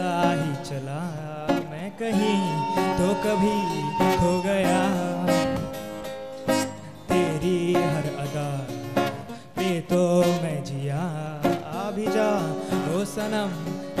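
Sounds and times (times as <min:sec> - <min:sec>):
man singing: 0:00.0 - 0:05.8, 0:06.5 - 0:14.0
acoustic guitar strumming: 0:00.0 - 0:14.0.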